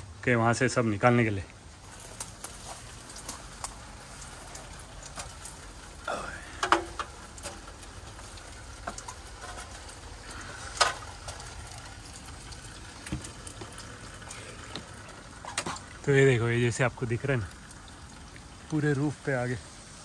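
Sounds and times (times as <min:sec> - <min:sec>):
steady hiss: 0:00.1 - 0:20.0.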